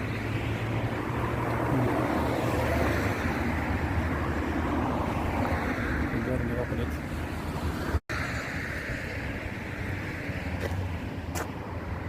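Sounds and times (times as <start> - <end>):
low rumble of wind: 0.0 - 12.0
tyres hissing as cars pass: 0.0 - 12.0.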